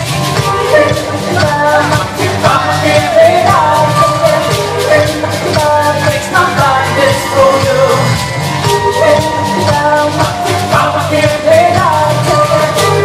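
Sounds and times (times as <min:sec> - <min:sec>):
person singing: 0:00.0 - 0:13.0
steady beat: 0:00.0 - 0:13.0.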